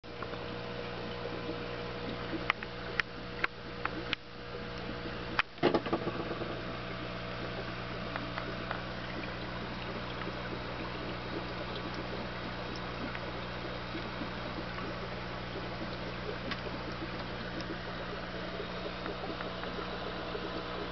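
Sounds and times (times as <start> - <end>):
aquarium pump humming: 0.1 - 20.9
water bubbling: 0.1 - 20.9.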